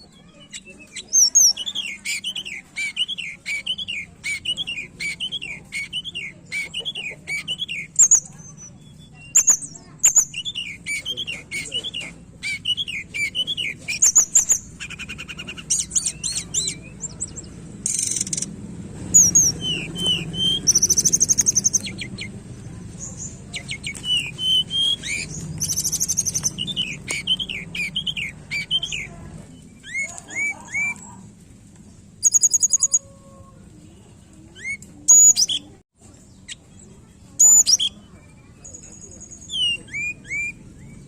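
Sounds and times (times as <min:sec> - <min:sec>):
songbird singing chirps and trills: 0:00.0 - 0:41.0.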